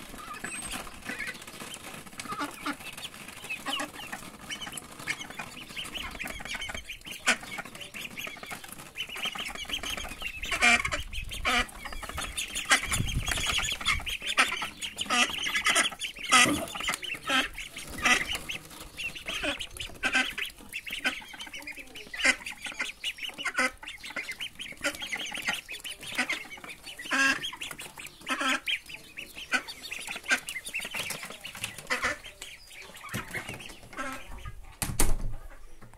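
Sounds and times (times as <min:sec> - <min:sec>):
ducklings peeping: 0:00.0 - 0:35.9.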